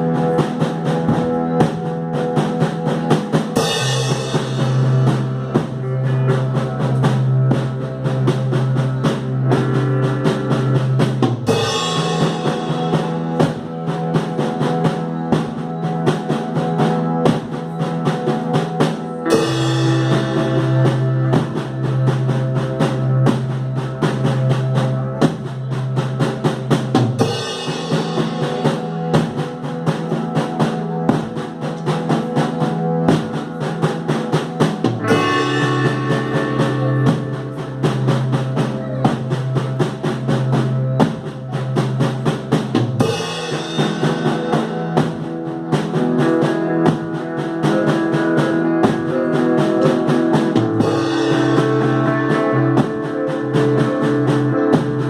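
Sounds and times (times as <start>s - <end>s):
drum kit beat: 0.0s - 55.0s
sustained guitar tones: 0.0s - 55.0s
synthesizer tones: 0.0s - 55.0s.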